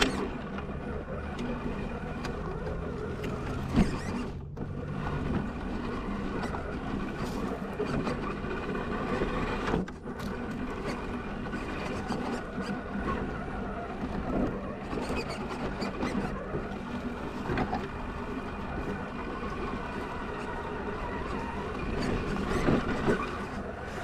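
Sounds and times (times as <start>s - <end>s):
electric motor and gears whining: 0.0s - 24.0s.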